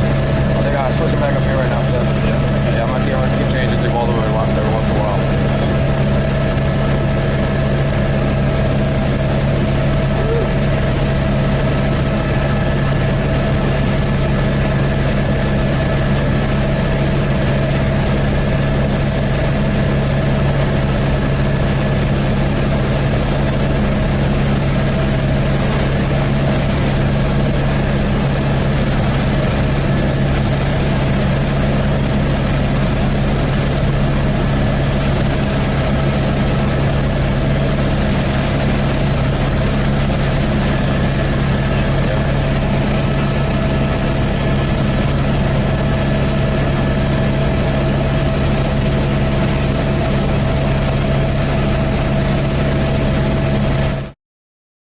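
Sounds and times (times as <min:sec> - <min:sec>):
helicopter engine and rotors drone: 0:00.0 - 0:54.2.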